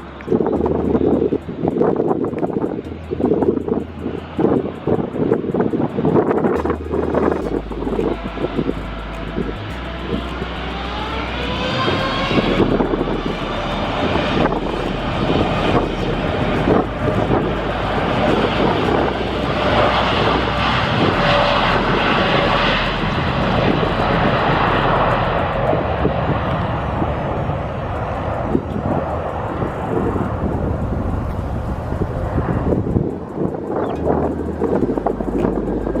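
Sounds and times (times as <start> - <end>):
jet airliner engines roaring: 0.0 - 36.0.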